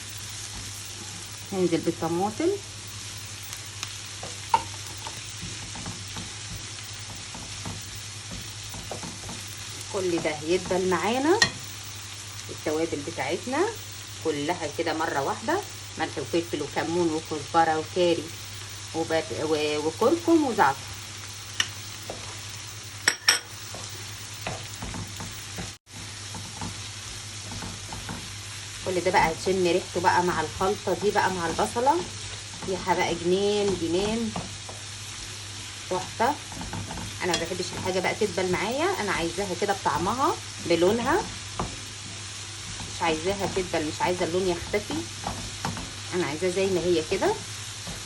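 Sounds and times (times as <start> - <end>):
vegetables sizzling in a pan: 0.0 - 48.0.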